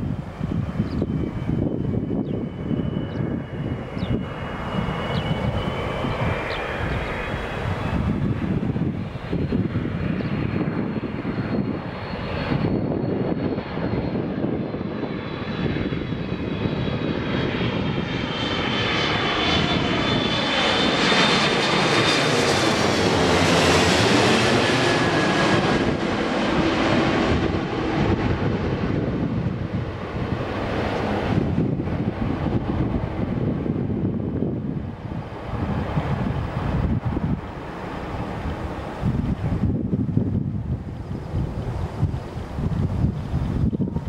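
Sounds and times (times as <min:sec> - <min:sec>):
jet airliner passing overhead: 0:00.0 - 0:44.0.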